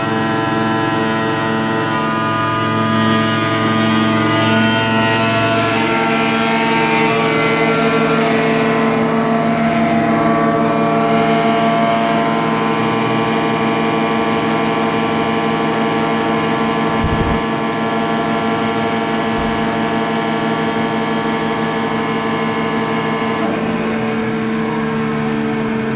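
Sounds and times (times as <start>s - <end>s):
hydraulic pump humming with whine: 0.0s - 25.9s.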